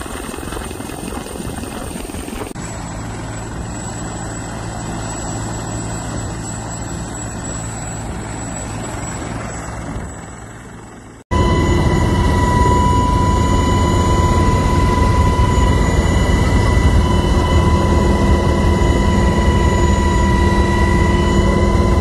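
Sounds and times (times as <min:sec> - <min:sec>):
helicopter turbine and rotor: 0:00.0 - 0:22.0.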